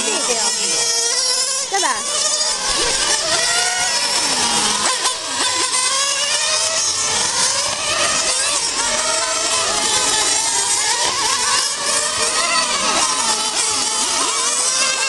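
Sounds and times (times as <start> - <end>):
model car motors whining: 0.0 - 15.0.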